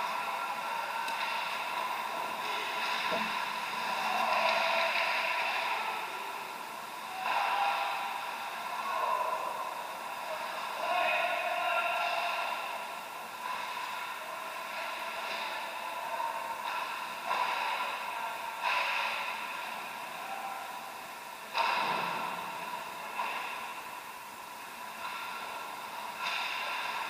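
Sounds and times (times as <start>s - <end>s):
arena background hum: 0.0s - 27.0s.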